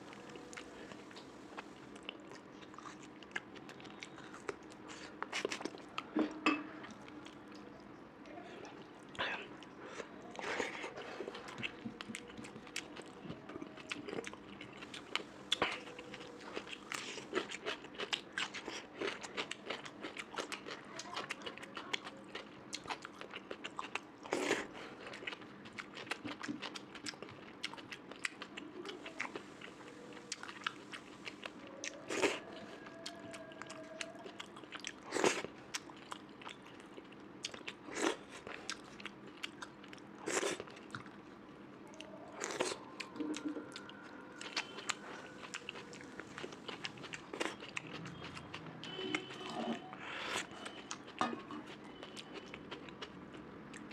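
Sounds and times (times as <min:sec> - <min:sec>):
person chewing food: 0:00.0 - 0:07.7, 0:08.6 - 0:41.2, 0:41.9 - 0:53.9.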